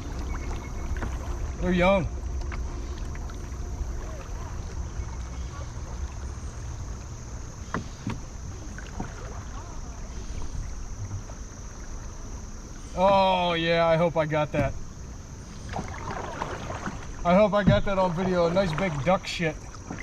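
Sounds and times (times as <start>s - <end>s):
rumble of water: 0.0s - 20.0s.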